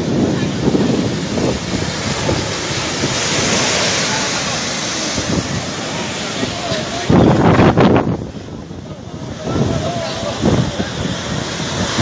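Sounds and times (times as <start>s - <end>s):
waves breaking: 0.0s - 12.0s
wind buffeting microphone: 0.0s - 12.0s.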